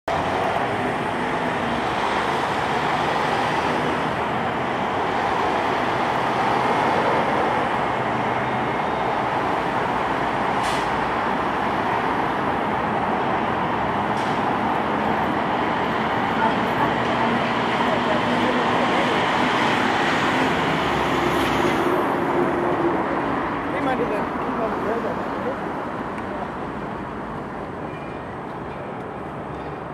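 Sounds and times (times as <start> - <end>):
diesel locomotive engines running: 0.1 - 29.9.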